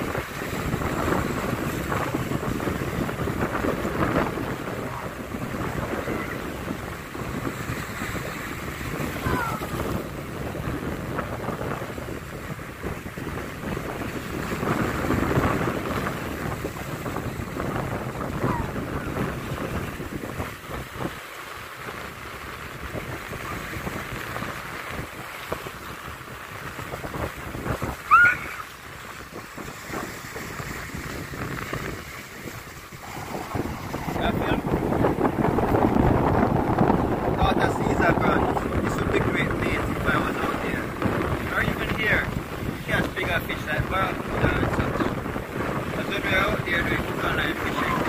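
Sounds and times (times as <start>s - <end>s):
waves washing on shore: 0.0s - 48.0s
wind buffeting microphone: 0.0s - 48.0s.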